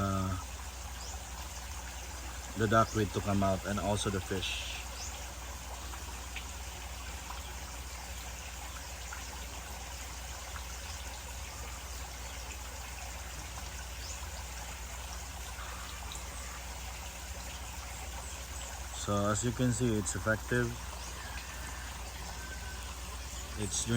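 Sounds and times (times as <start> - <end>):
low steady hum: 0.0 - 23.9
water trickling from overflow pipe: 0.0 - 23.9.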